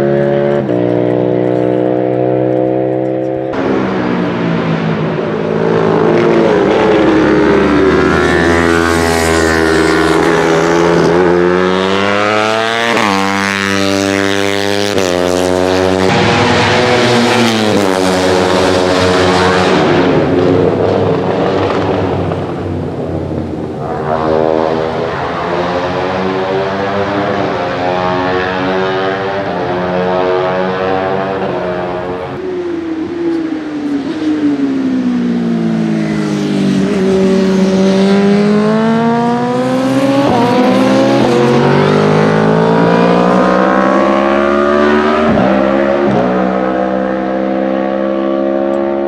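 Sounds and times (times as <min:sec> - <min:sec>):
motorcycles accelerating past: 0:00.0 - 0:49.0.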